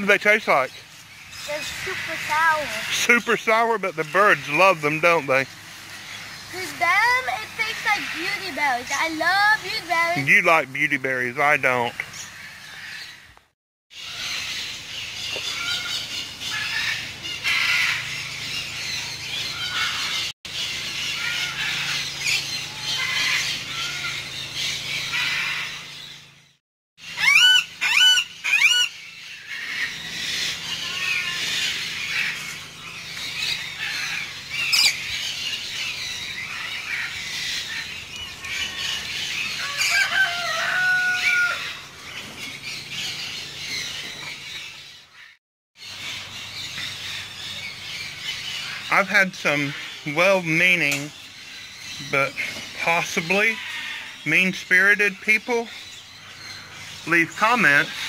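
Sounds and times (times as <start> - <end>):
loud looping bird calls: 0.0 - 58.0
parrots chirping and squawking: 0.0 - 58.0.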